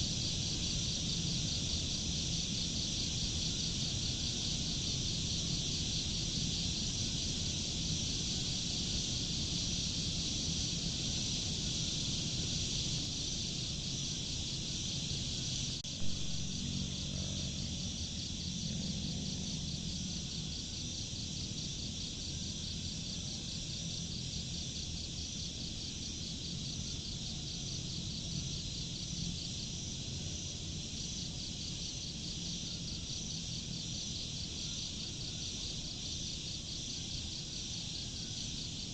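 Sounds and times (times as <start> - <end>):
low continuous rumble: 0.0 - 36.0
crickets and insects chirping: 0.0 - 38.9.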